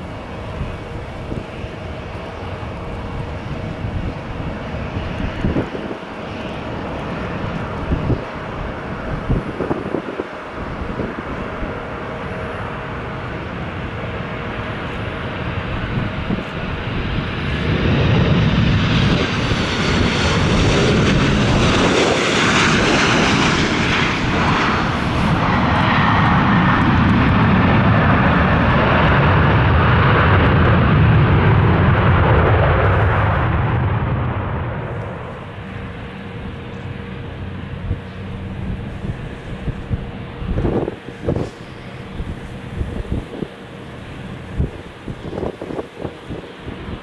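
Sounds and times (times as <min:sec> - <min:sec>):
jet airliner engines passing: 0:00.0 - 0:47.0.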